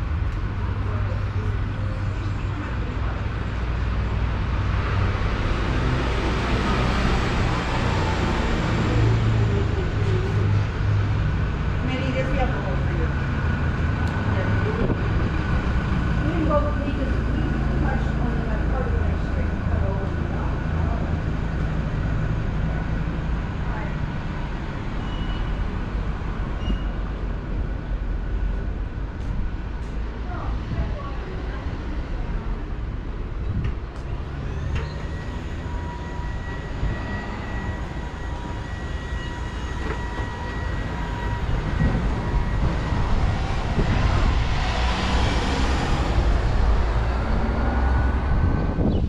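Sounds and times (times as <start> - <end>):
low rumble of road traffic: 0.0 - 49.0.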